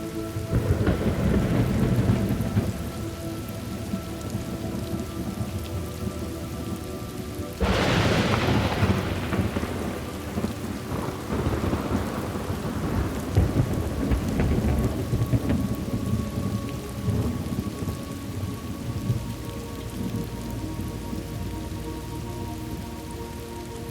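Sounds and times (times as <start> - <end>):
steady rain: 0.0 - 23.9
thunderclap rumbling: 0.3 - 22.9.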